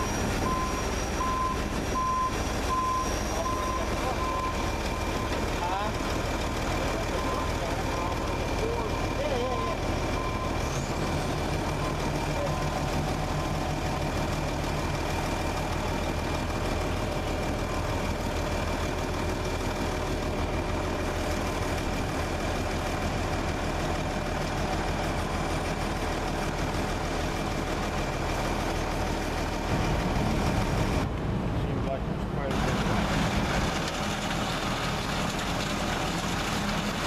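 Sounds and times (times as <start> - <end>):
farm machinery engine drone: 0.0 - 37.0.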